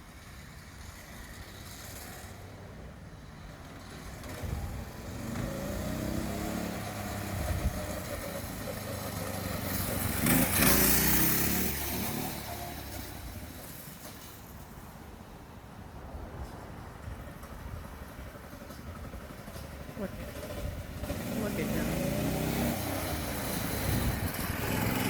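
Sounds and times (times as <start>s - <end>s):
mini bike passing by: 0.0s - 15.0s, 16.5s - 25.0s.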